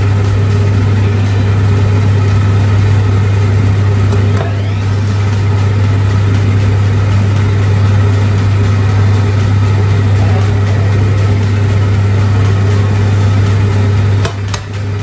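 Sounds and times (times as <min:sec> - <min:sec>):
loud steady hum: 0:00.0 - 0:15.0.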